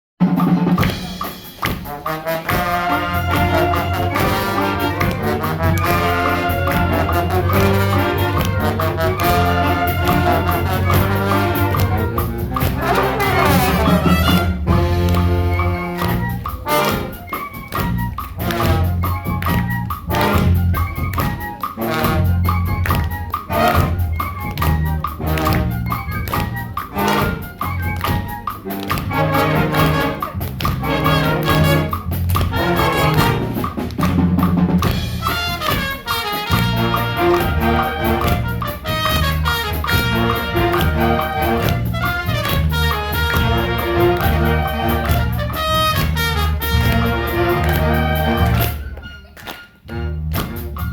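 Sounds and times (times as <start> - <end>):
steady drum beat: 0.2 - 49.0, 50.1 - 50.9
wind band playing: 0.2 - 50.9.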